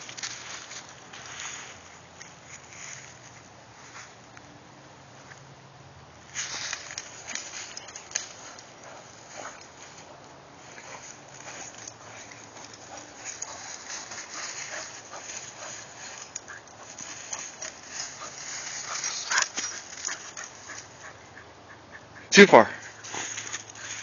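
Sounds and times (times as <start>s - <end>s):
footsteps on leaves: 0.0s - 4.2s, 6.2s - 20.9s, 22.8s - 24.0s
dry leaves crunching: 0.0s - 4.3s, 6.2s - 21.1s, 22.8s - 24.0s.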